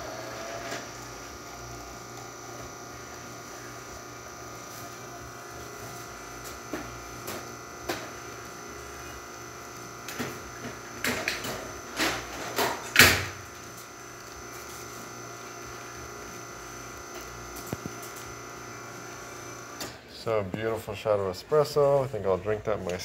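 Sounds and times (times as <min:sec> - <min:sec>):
espresso machine humming: 0:00.0 - 0:20.1.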